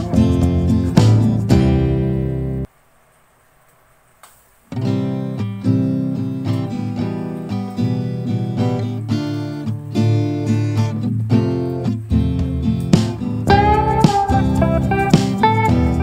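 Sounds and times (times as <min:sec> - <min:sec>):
acoustic guitar music: 0:00.0 - 0:02.7, 0:04.7 - 0:16.0.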